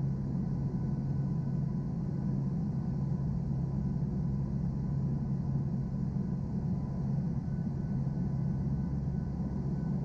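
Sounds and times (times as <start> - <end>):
turboprop engine drone in cabin: 0.0 - 10.0.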